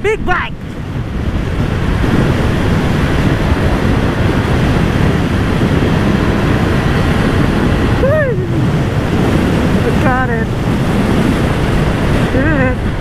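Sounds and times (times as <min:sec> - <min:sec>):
wind rushing on microphone: 0:00.0 - 0:13.0
motorcycle engine running: 0:00.6 - 0:13.0.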